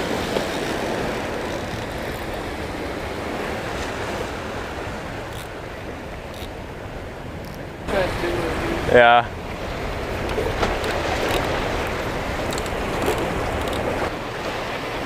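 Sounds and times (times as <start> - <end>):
waves breaking over rocks: 0.0 - 15.0.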